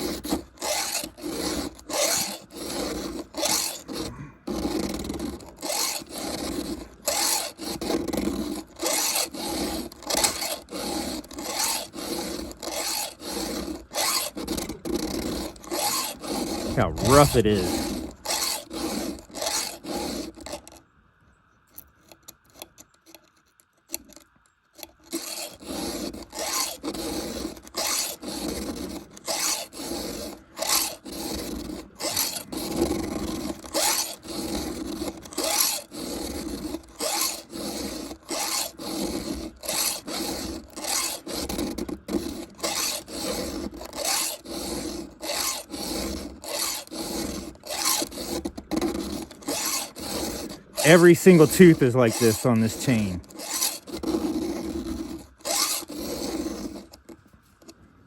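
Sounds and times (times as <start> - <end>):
file rasping on saw chain: 0.0 - 20.8, 24.8 - 57.7.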